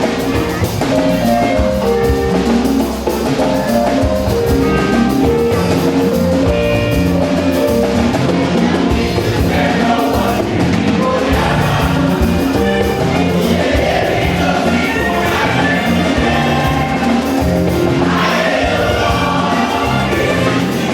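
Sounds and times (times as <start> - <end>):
congregation singing gospel: 0.0 - 20.9
drums and percussion: 0.0 - 20.9.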